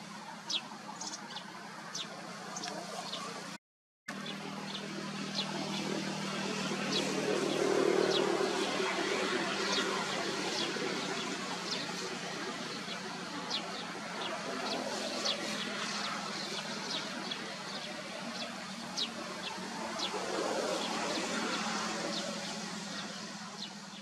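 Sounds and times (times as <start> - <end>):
small birds chirping: 0.2 - 3.5, 4.1 - 24.0.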